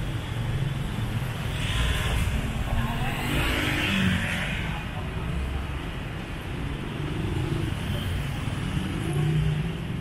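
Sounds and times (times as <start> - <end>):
passing motorbikes and cars: 0.0 - 10.0
street traffic: 0.0 - 10.0.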